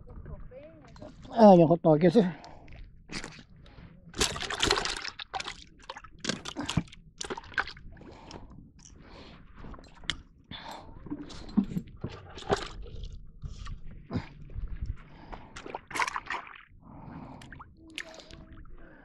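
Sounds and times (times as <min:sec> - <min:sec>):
water sloshing and splashing: 0:02.4 - 0:19.0.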